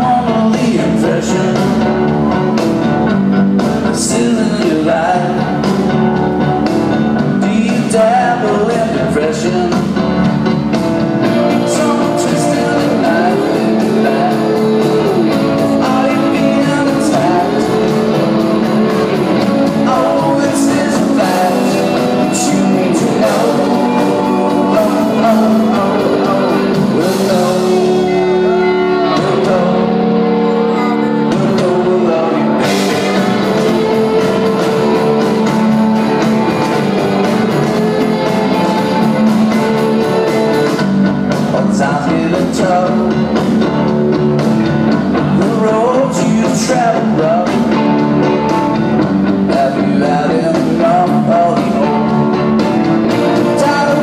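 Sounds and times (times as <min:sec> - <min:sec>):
live rock band with singer: 0:00.0 - 0:54.0.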